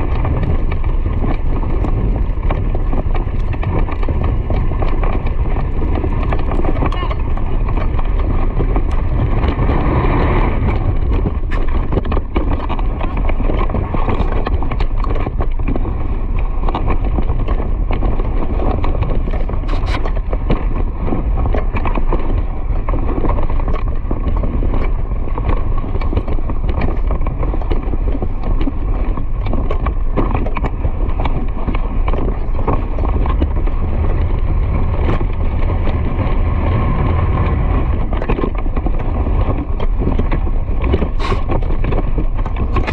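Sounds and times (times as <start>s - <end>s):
horse hooves galloping: 0.0s - 42.9s
wind buffeting microphone: 0.0s - 42.9s.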